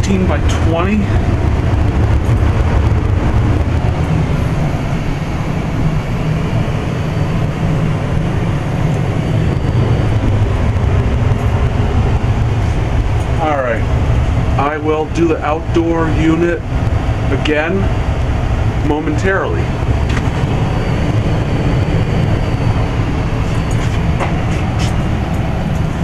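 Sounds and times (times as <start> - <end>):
blower rumbling: 0.0 - 26.0.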